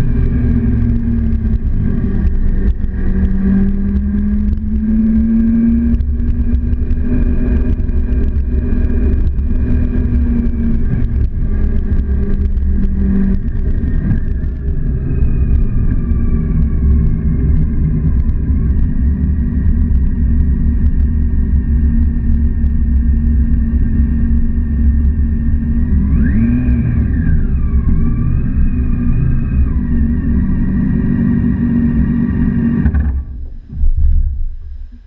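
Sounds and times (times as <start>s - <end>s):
motorcycle engine humming: 0.0s - 35.0s.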